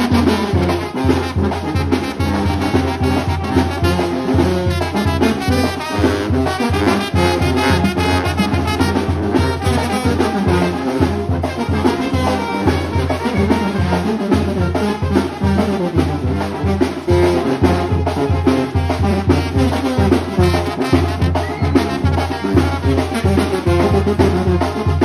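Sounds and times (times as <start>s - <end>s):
hand drums: 0.0s - 25.0s
low brass bass line: 0.0s - 25.0s
trombone and trumpet melody: 0.0s - 25.0s.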